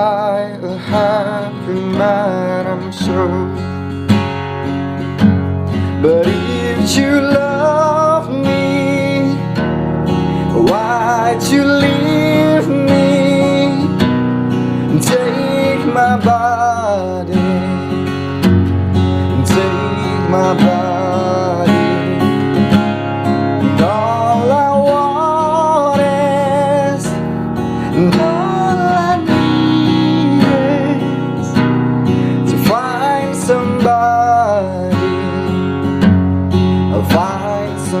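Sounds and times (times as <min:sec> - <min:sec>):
person singing: 0:00.0 - 0:03.7, 0:05.9 - 0:09.6, 0:10.4 - 0:14.1, 0:14.7 - 0:18.4, 0:19.2 - 0:22.7, 0:23.4 - 0:27.2, 0:27.8 - 0:31.6, 0:32.2 - 0:35.9, 0:36.8 - 0:38.0
acoustic guitar strumming chords: 0:00.0 - 0:38.0.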